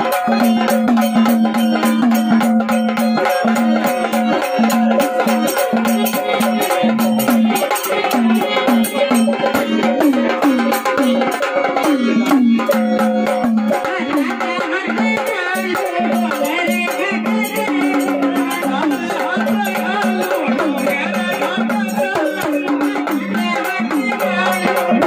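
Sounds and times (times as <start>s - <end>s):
hand drums: 0.0s - 25.0s.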